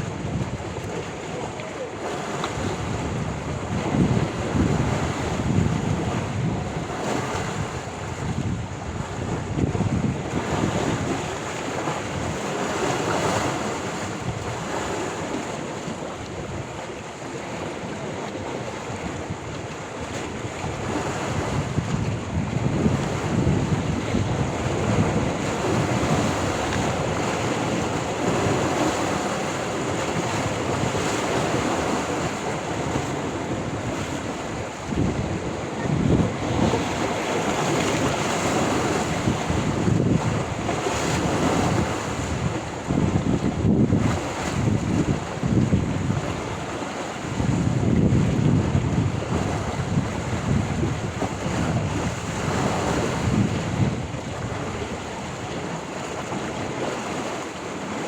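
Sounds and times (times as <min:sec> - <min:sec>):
wind buffeting microphone: 0:00.0 - 0:57.4
sea waves breaking: 0:00.0 - 0:58.0.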